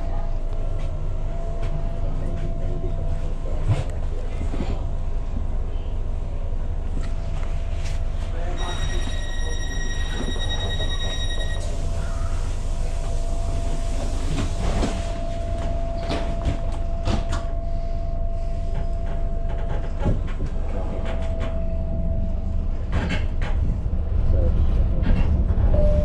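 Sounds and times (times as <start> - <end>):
train car rumbling: 0.0 - 26.0.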